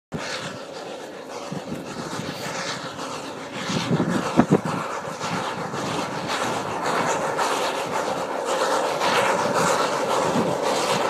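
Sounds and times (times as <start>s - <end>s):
train rumble and rattle: 0.2s - 11.0s.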